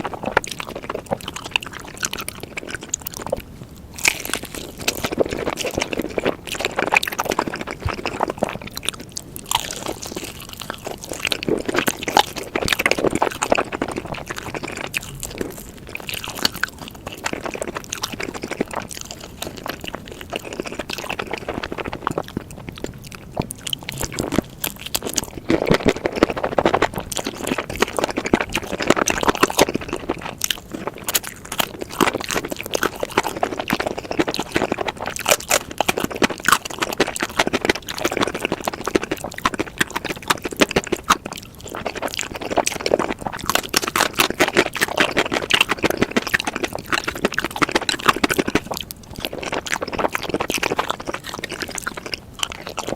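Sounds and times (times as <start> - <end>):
chewing and crunching food: 0.0 - 52.9.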